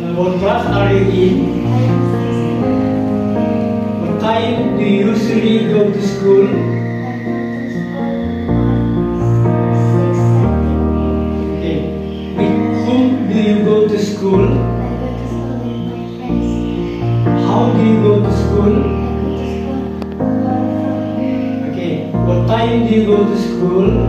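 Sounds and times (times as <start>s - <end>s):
background music with held chords: 0.0s - 24.0s.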